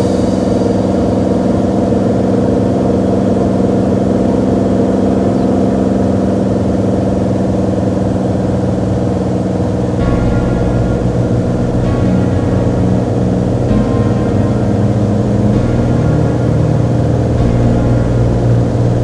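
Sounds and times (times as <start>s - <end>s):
piston aircraft engine running: 0.0s - 19.0s.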